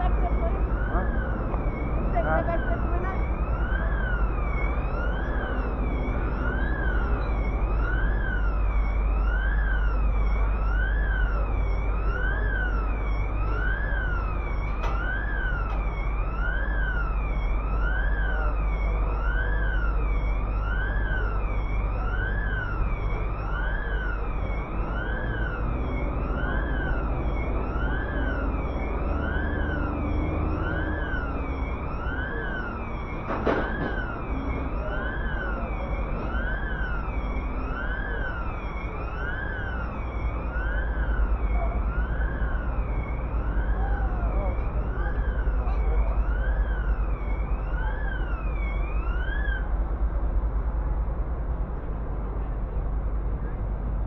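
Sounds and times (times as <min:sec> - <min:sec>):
emergency siren wailing: 0:00.0 - 0:54.0
low street rumble: 0:00.0 - 0:54.0.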